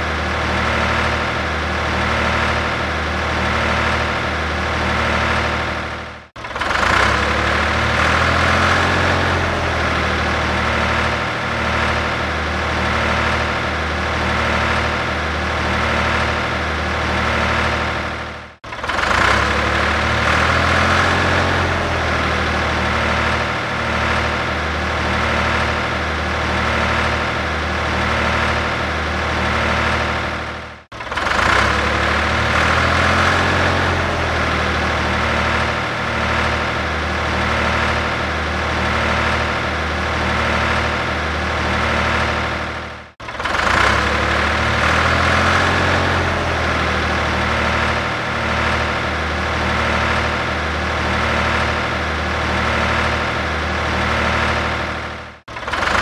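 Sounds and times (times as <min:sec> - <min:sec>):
tractor engine idling: 0:00.0 - 0:56.0.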